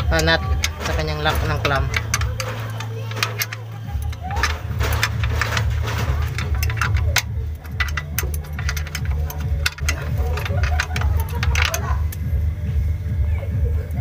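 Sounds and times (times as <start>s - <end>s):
wrench clicking on metal: 0.0s - 12.3s
low pulsing machine rumble: 0.0s - 14.0s.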